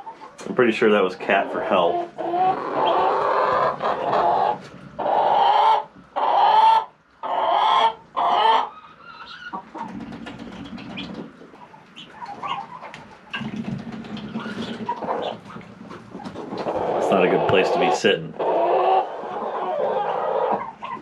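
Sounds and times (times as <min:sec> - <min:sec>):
chickens clucking: 0:00.0 - 0:21.0
chickens squawking: 0:00.0 - 0:21.0.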